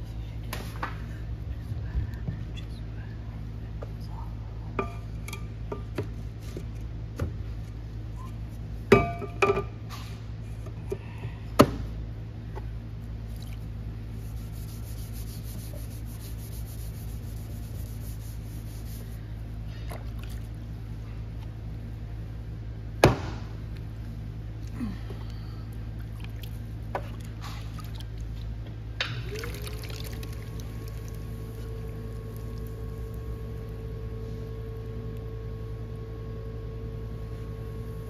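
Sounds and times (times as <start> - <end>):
pottery wheel humming: 0.0 - 38.0.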